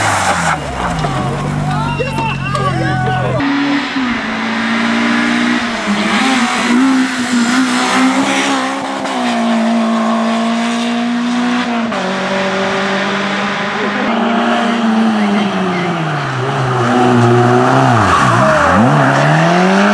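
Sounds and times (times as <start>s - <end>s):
car engine at high revs: 0.0s - 19.9s.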